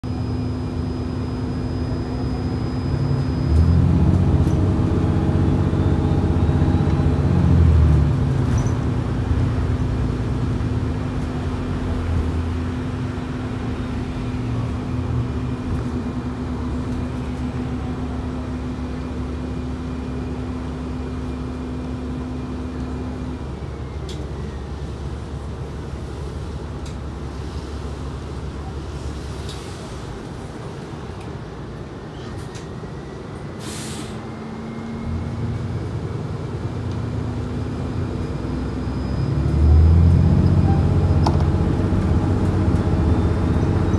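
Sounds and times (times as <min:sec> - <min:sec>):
bus engine rumbling: 0:00.0 - 0:43.9.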